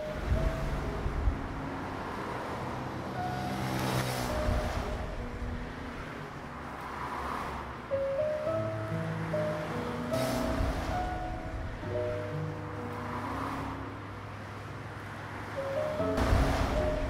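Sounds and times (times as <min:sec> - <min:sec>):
faint piano notes: 0:00.0 - 0:17.0
passing cars: 0:00.0 - 0:17.0.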